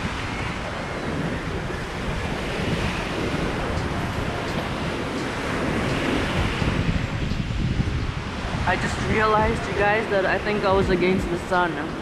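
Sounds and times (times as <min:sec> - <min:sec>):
waves breaking on shore: 0:00.0 - 0:12.0
wind buffeting microphone: 0:00.0 - 0:12.0.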